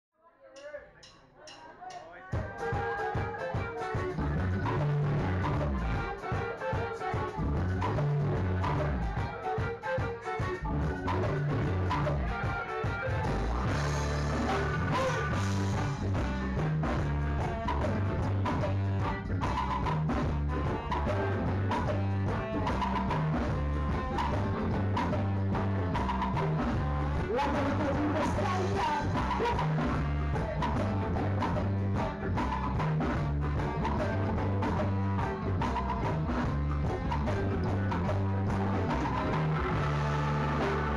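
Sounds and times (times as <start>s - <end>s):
drums steady beat: 0.6s - 40.9s
keyboard: 0.6s - 40.9s
guitars: 2.1s - 40.9s
live rock band playing: 2.3s - 40.9s
electric bass line: 2.6s - 40.9s.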